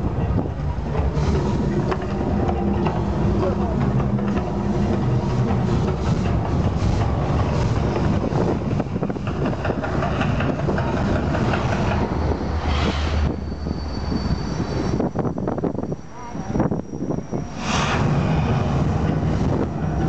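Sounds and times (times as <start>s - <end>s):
volcano show rumbling roar: 0.0s - 14.9s, 16.6s - 20.0s.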